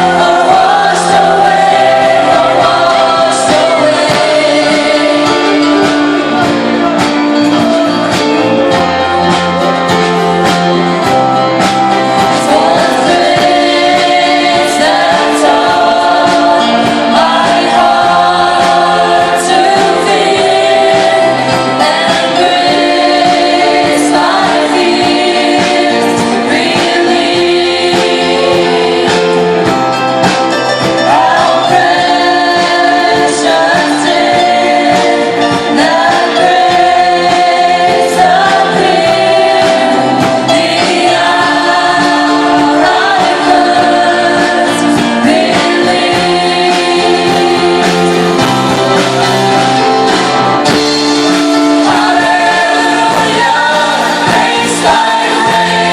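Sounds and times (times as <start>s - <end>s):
singers holding long notes: 0.0s - 55.9s
worship band playing: 0.0s - 55.9s.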